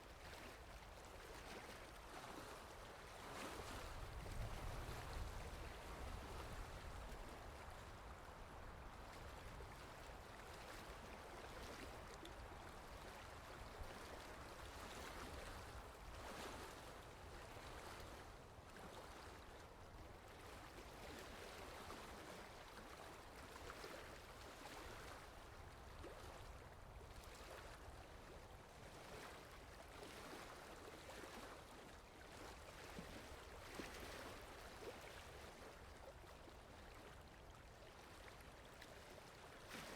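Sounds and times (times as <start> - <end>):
lake water lapping: 0.1 - 39.9.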